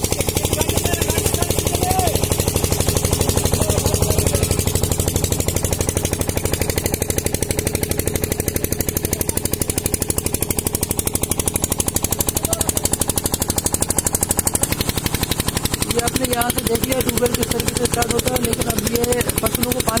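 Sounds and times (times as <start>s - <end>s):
diesel pump engine chugging: 0.0s - 20.0s.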